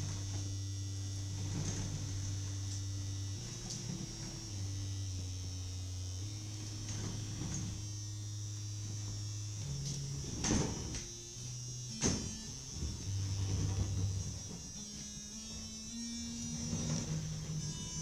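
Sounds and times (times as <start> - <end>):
low electronic drone: 0.0 - 18.0
thin high whine: 0.0 - 18.0.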